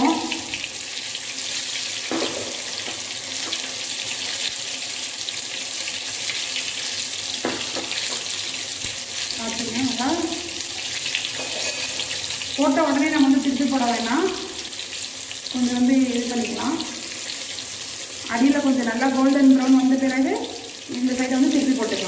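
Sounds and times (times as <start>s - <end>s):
hot oil sizzling: 0.0s - 22.0s.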